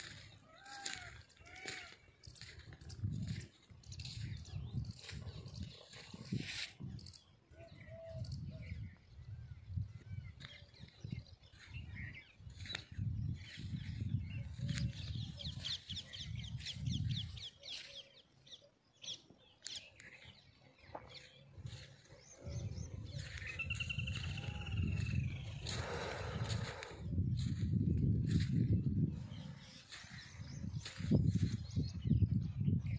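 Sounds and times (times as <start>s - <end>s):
wind buffeting microphone: 0.0s - 17.8s, 21.2s - 32.9s
birds calling: 0.0s - 32.3s.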